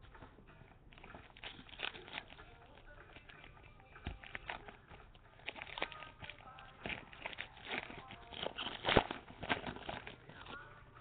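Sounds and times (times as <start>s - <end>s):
foil wrapper crinkling: 0.8s - 11.0s.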